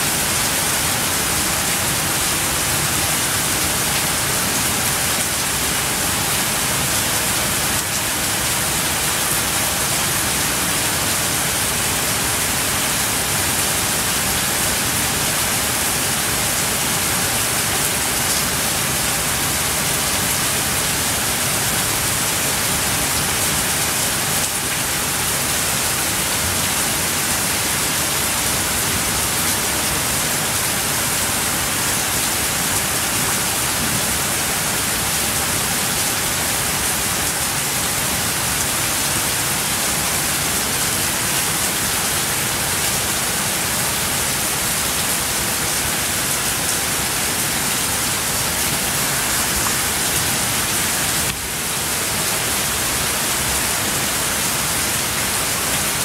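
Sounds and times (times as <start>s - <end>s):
heavy rain on foliage and tiles: 0.0s - 56.0s.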